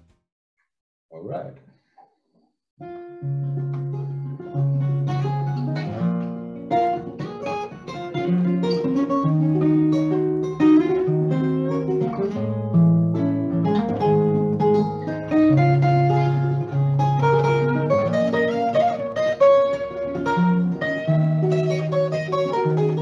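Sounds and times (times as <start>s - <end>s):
acoustic guitars playing: 2.8s - 23.0s.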